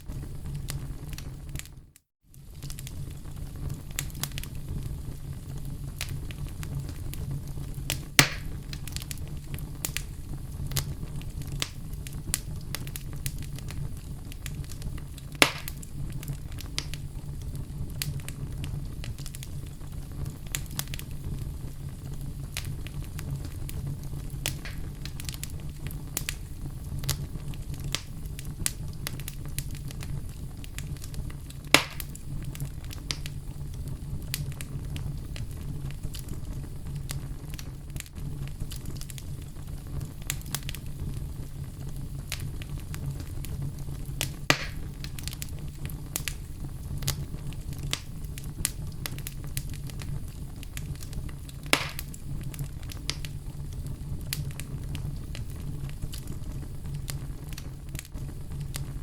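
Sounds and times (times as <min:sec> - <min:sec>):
fire crackling: 0:00.0 - 0:59.0
fire popping: 0:00.0 - 0:59.0.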